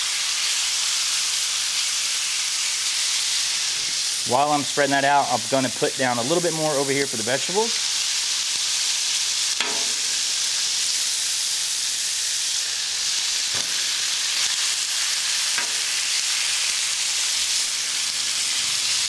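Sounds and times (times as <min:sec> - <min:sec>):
meat sizzling on a griddle: 0:00.0 - 0:19.0.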